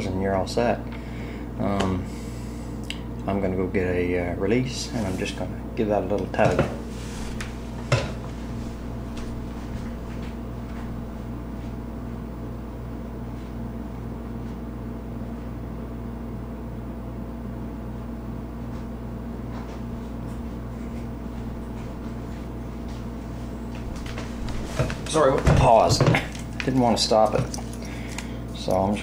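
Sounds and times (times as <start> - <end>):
low mechanical hum with pulsing: 0.0 - 29.0.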